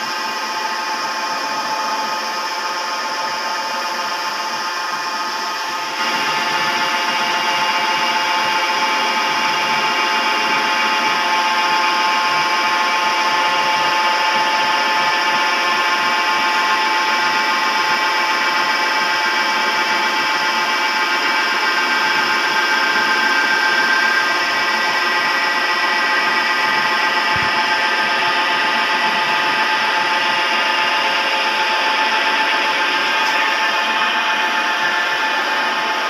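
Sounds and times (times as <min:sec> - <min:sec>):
metal lathe whining: 0:00.0 - 0:36.0.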